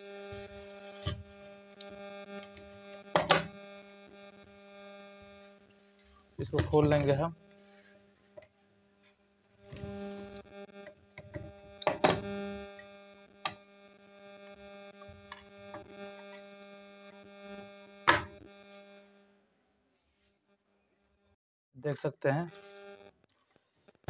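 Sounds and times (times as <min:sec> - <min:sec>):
steady hum: 0:00.0 - 0:19.4.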